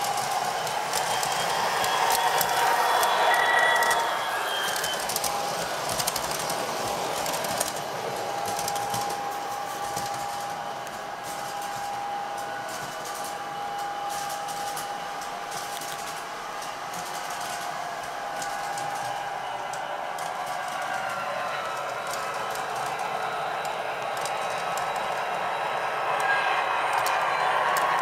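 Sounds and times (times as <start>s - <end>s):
model train whirring: 0.0s - 28.0s
train wheels clicking over joints: 0.0s - 28.0s.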